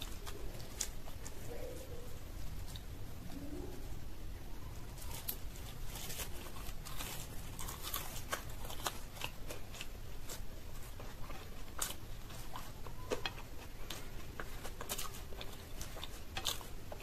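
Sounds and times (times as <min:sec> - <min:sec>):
fingers tearing fried bread: 0:00.0 - 0:02.9, 0:04.9 - 0:17.0
close chewing with crunches: 0:00.0 - 0:03.8, 0:04.8 - 0:17.0.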